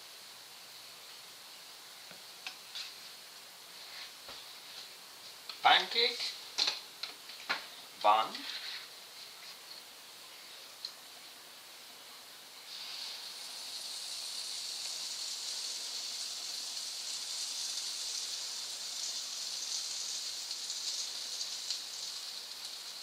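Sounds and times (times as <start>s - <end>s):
pancake sizzling in butter: 0.0s - 23.0s.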